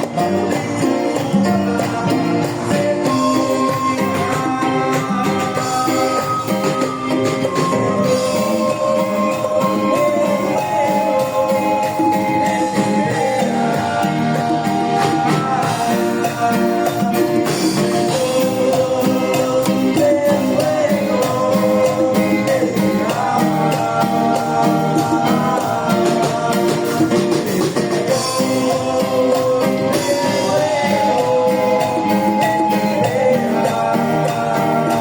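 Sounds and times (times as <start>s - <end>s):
live band dance music: 0.0s - 35.0s.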